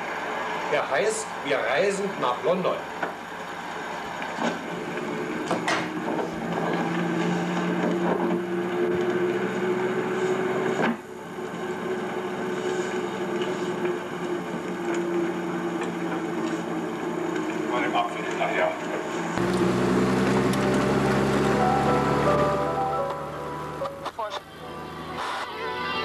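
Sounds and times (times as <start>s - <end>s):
car engine droning: 4.6s - 25.7s.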